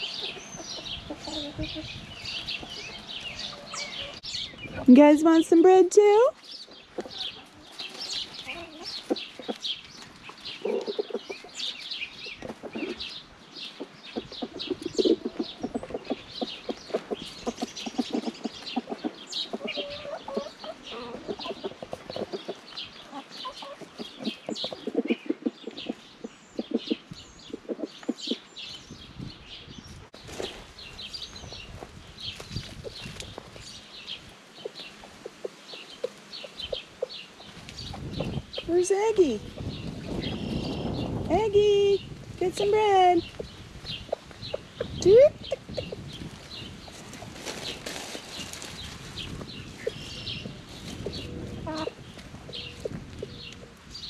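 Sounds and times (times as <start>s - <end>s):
chickens clucking: 0.0s - 28.7s, 30.2s - 41.6s, 42.4s - 54.0s.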